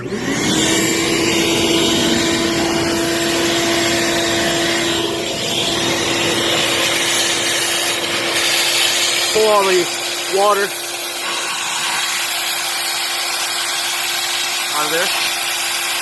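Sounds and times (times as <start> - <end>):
vacuum sucking water: 0.0 - 16.0.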